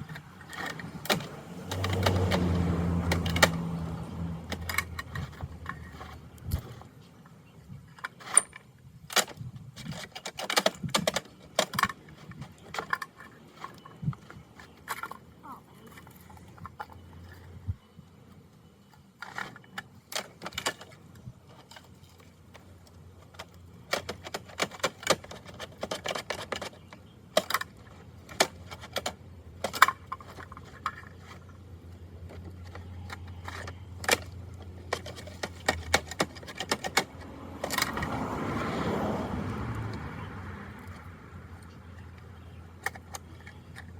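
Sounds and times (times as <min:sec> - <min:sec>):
plastic toy clattering: 0:00.0 - 0:06.9, 0:07.9 - 0:17.5, 0:19.2 - 0:38.5, 0:41.6 - 0:43.9.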